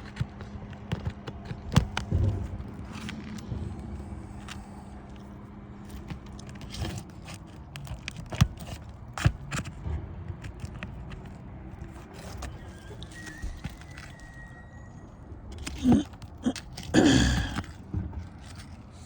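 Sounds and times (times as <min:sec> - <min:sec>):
roof shingles clicking and scraping: 0:00.0 - 0:19.0.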